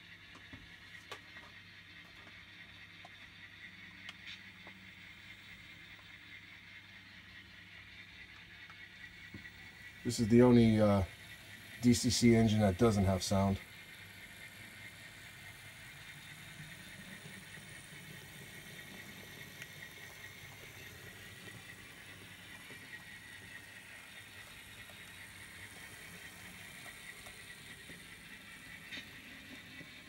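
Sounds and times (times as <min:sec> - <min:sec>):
model locomotive motor whirring: 0:00.0 - 0:30.0.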